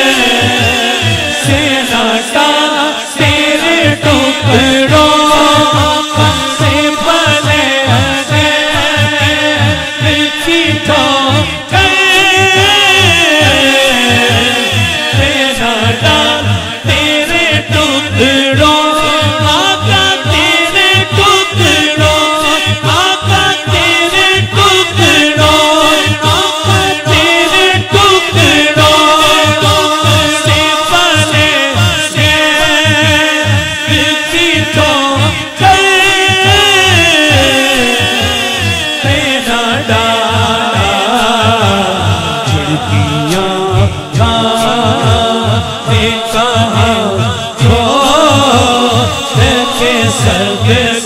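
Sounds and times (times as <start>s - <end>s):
chorus voices: 0.0s - 51.0s
low rhythmic pulse: 0.0s - 51.0s
person singing: 0.0s - 51.0s.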